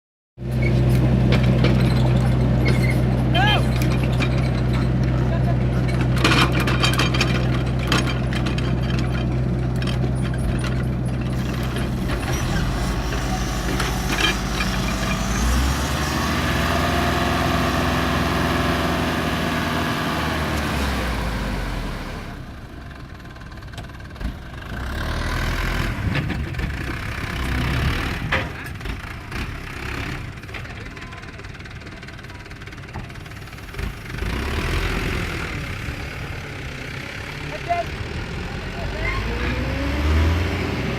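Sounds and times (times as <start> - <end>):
large engine running: 0.4 - 40.9.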